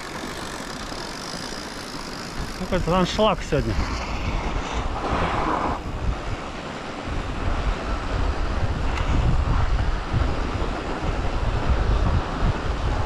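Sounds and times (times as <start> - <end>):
wind buffeting the microphone: 2.3 - 13.0.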